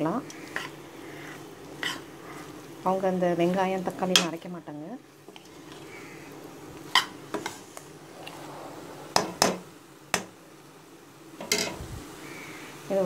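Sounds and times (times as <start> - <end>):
food sauteing in a pot: 0.0 - 13.0.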